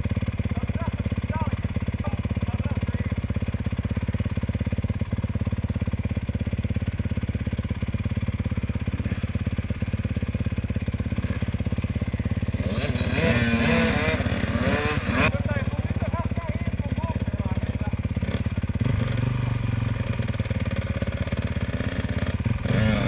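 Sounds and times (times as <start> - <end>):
dirt bike engine idling: 0.0 - 23.0
dirt bike engine revving: 0.0 - 23.0.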